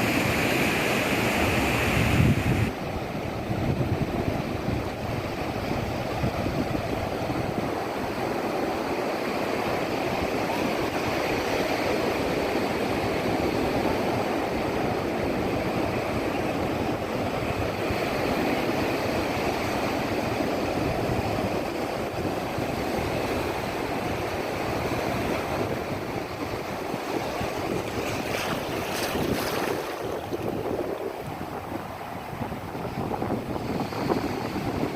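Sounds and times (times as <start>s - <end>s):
waves breaking on a beach: 0.0s - 34.9s.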